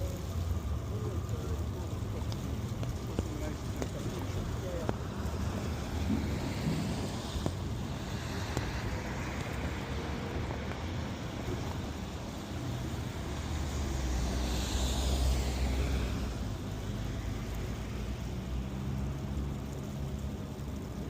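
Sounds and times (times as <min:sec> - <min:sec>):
passing vehicles rumbling: 0:00.0 - 0:21.0
wind: 0:00.0 - 0:21.0.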